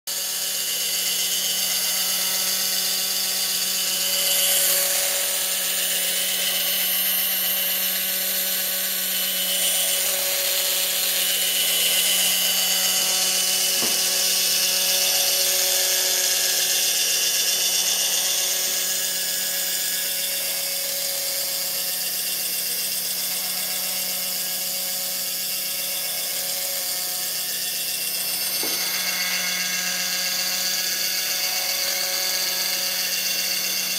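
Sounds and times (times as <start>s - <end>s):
small electric motor whirring: 0.1s - 33.9s.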